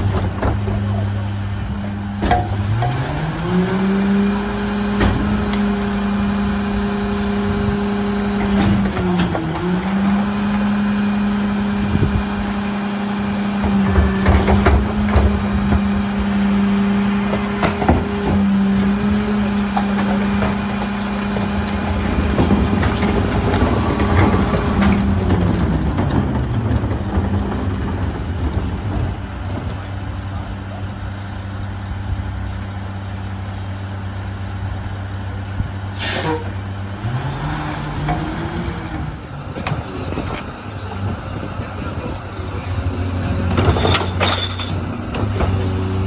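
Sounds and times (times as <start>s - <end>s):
garbage truck engine revving: 0.0s - 46.0s
hydraulic packer running: 0.0s - 46.0s
refuse clanking and crunching: 0.0s - 46.0s.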